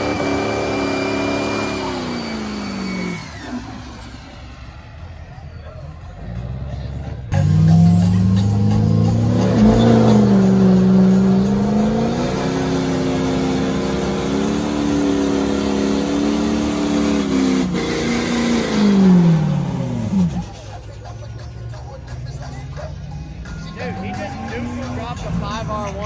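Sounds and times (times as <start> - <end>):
truck engine revving hard: 0.0 - 26.0.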